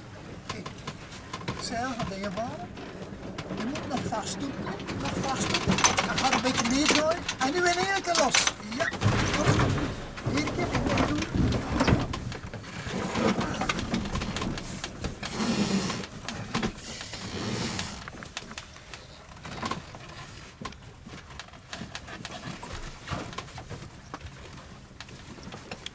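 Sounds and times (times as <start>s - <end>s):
lines and winch clicking: 0.2s - 25.9s.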